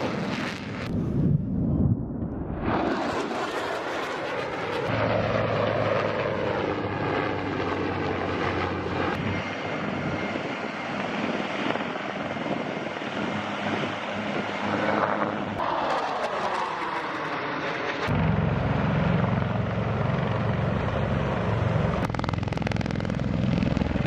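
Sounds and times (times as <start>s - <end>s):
military aircraft flying past: 0.0s - 24.0s.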